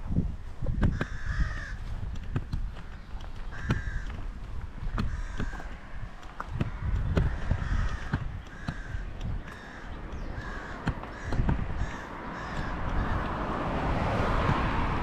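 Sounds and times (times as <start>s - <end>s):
crows cawing: 0.9s - 13.7s.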